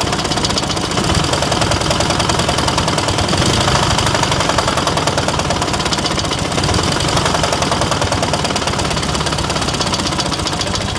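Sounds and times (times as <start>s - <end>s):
engine running steadily: 0.0s - 10.9s.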